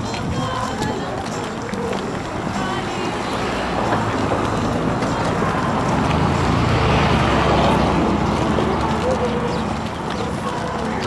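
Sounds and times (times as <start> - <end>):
footsteps on gravel: 0.0 - 11.0
vehicle engine hum: 0.0 - 11.0.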